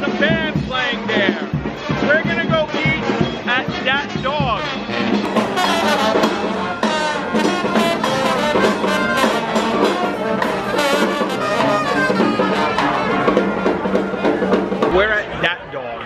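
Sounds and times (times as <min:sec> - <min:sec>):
brass band playing: 0:00.0 - 0:15.4.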